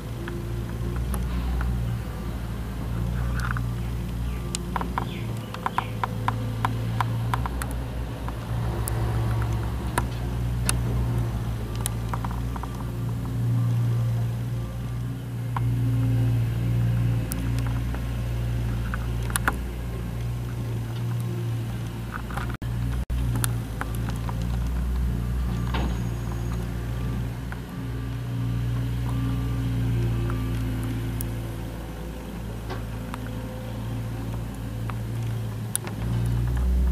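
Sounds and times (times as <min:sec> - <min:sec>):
loader engine running: 0:00.0 - 0:36.9.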